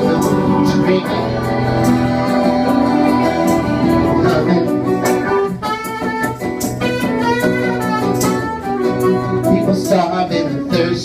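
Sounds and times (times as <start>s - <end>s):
acoustic guitar strumming: 0.0s - 11.0s
bending lead melody line: 0.0s - 11.0s.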